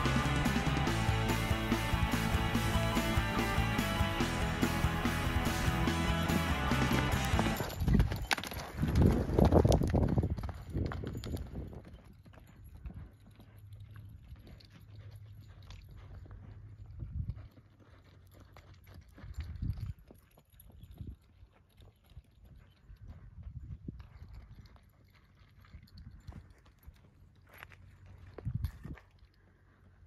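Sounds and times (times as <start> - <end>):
horse hoofbeats on dirt: 0.0 - 30.0.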